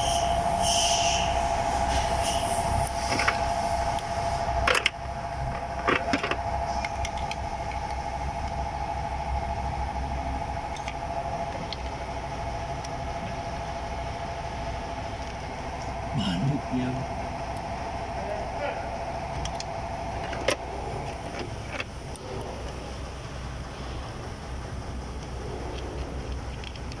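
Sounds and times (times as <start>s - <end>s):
steady mechanical hum: 0.0s - 27.0s.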